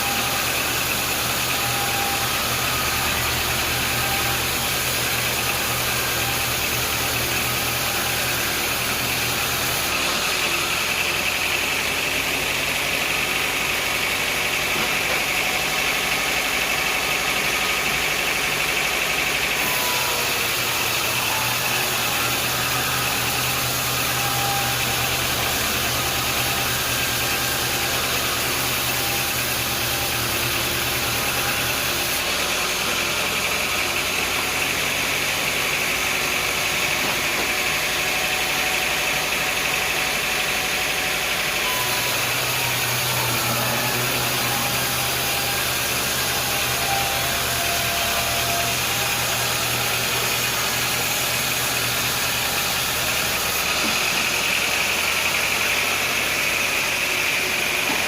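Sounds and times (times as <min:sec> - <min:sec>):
sawmill motor hum: 0:00.0 - 0:58.0.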